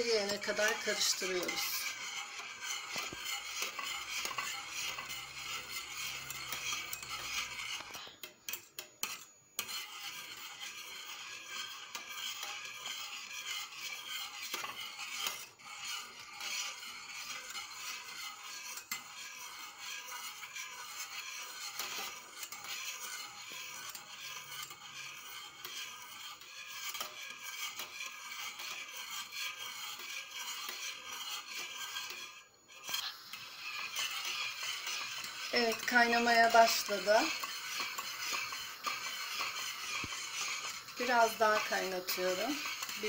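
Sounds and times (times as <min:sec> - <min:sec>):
whisk scraping metal pot: 0:00.0 - 0:43.0.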